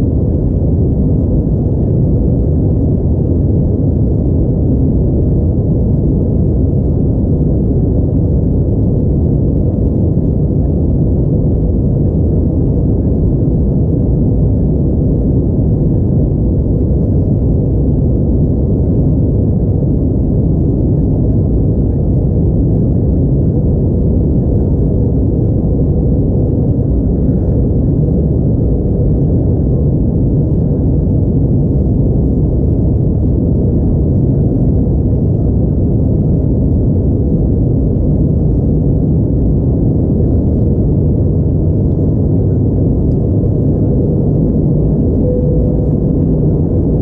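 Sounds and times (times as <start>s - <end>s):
airplane cabin rumble: 0.0s - 47.0s.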